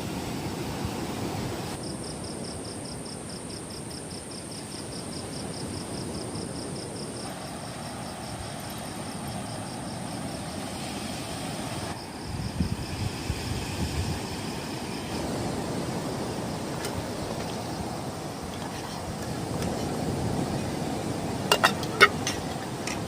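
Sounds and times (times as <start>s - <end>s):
strong wind: 0.0s - 23.0s
insect chirping in pulses: 0.1s - 23.0s.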